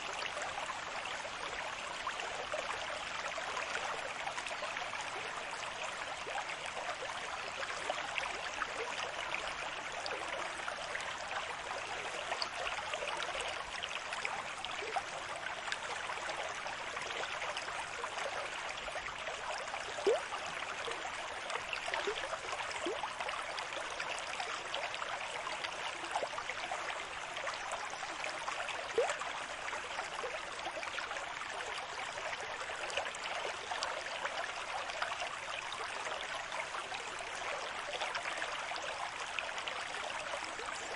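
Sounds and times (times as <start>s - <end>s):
water gurgles and drips: 0.0s - 40.9s.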